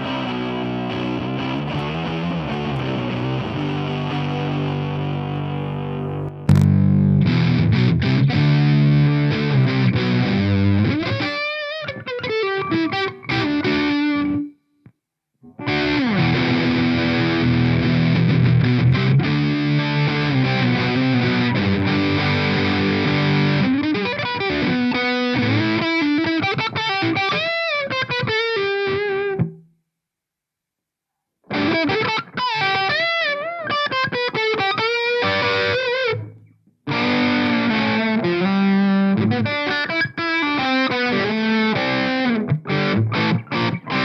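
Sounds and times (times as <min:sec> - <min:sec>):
distorted electric guitar: 0:00.0 - 0:14.6, 0:15.4 - 0:29.6, 0:31.4 - 0:44.0.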